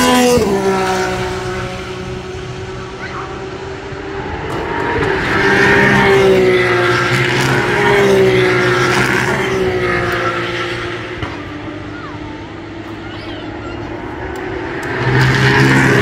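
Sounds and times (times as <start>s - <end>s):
race car engines at high revs: 0.0s - 16.0s.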